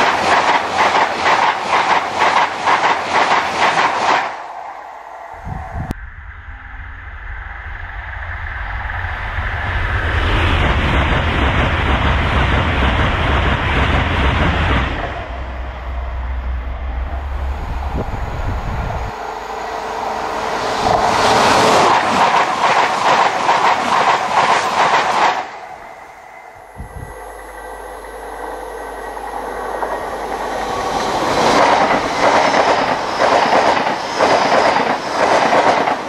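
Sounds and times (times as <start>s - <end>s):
high-speed train rushing past: 0.0s - 36.0s.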